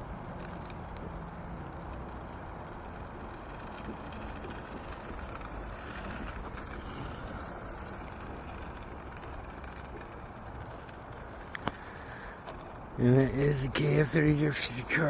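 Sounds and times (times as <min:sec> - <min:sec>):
rc car motor running: 0:00.0 - 0:15.0.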